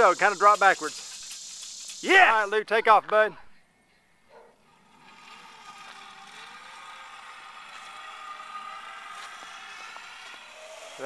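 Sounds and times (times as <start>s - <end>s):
pulley wheels whirring on cable: 0.0s - 2.6s, 4.6s - 11.0s.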